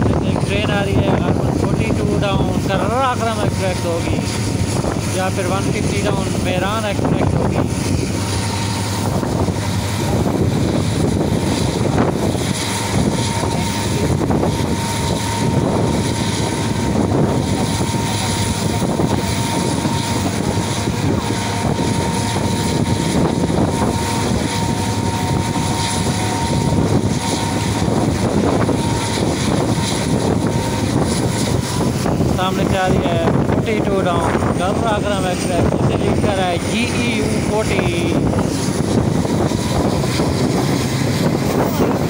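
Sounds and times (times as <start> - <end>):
diesel locomotive engine drone: 0.0 - 42.0
rushing wind: 0.0 - 42.0
train wheel noise: 0.0 - 42.0.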